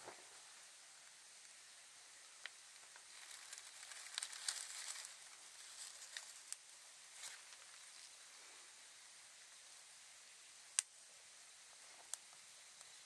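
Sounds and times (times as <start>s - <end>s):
fire crackling and popping: 0.0s - 13.0s
fire hissing: 0.0s - 13.0s.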